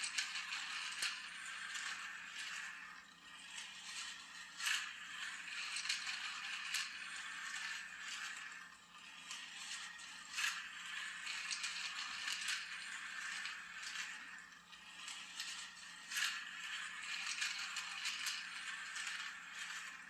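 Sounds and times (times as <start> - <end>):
toy race car rattling on track: 0.0 - 20.0.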